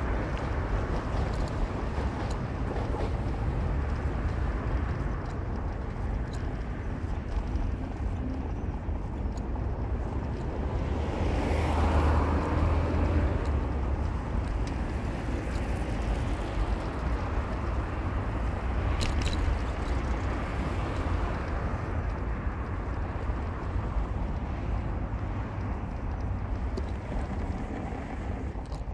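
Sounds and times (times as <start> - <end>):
car engine rumble: 0.0 - 28.9
road noise: 0.0 - 28.9.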